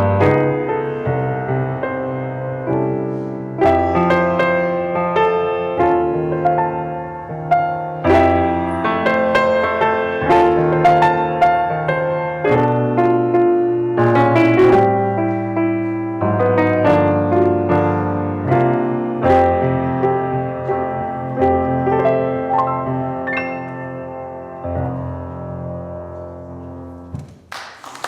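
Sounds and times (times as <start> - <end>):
slow gentle solo piano: 0.0 - 27.4.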